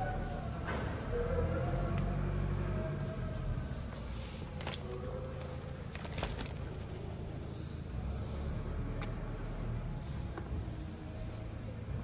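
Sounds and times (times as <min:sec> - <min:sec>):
workshop low rumble: 0:00.0 - 0:12.0.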